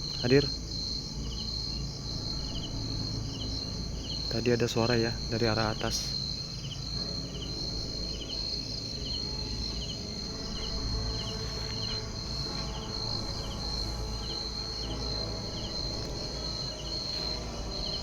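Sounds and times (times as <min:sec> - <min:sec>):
cricket chirping: 0:00.0 - 0:18.0
high-pitched insect trill: 0:00.0 - 0:18.0.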